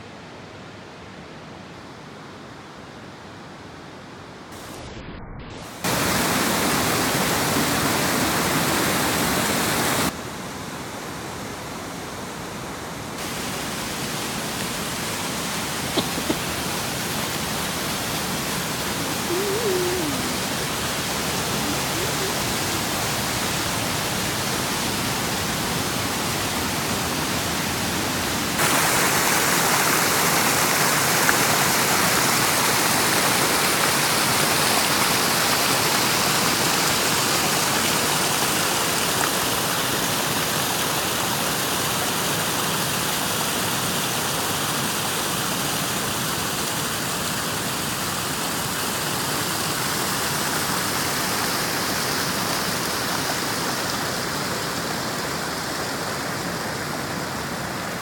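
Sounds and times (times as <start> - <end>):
waterfall rushing: 5.6 - 58.0.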